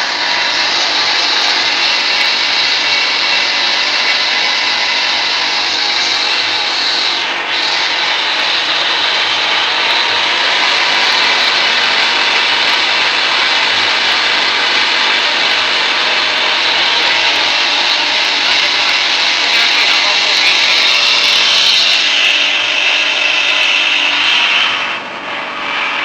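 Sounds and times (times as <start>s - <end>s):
grinding mill whirring hiss: 0.0s - 26.0s.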